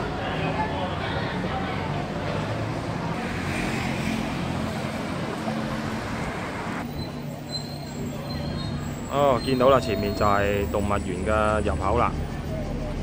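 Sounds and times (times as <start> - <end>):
traffic rumble and hiss: 0.0 - 13.0.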